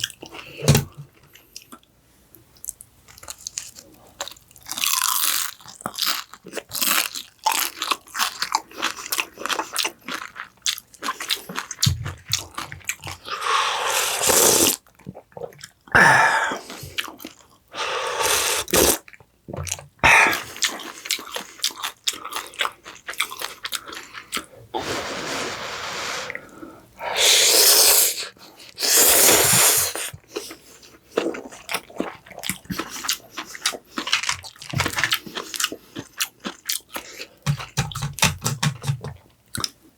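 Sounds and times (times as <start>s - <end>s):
person chewing and crunching: 2.6s - 24.6s, 28.5s - 39.9s.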